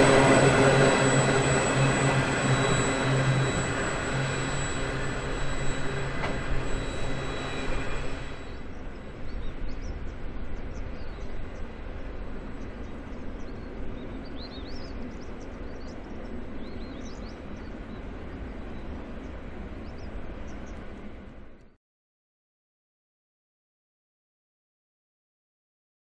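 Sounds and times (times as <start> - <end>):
freight train rumbling: 0.0 - 21.6.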